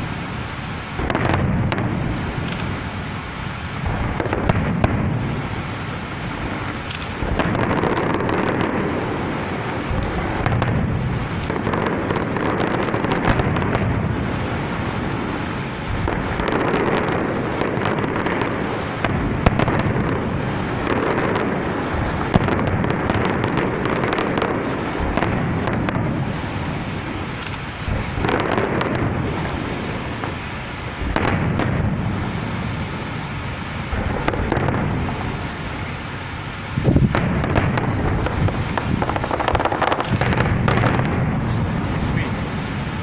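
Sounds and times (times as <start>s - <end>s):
firework bangs: 0.0s - 43.0s
fireworks crackling: 0.0s - 43.0s.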